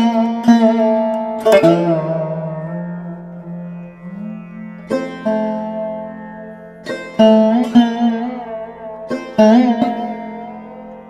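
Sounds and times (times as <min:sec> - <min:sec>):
plucked string instrument notes: 0:00.0 - 0:11.0.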